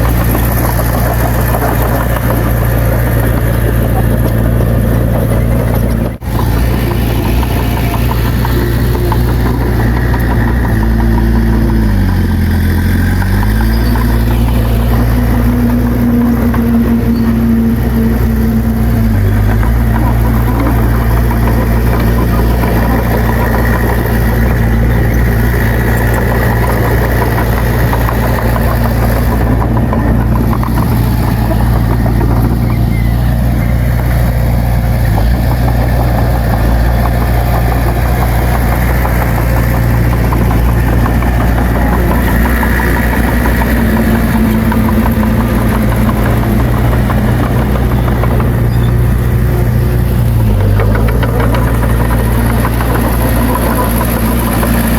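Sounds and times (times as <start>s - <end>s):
heavy machinery diesel engine droning: 0.0s - 54.9s.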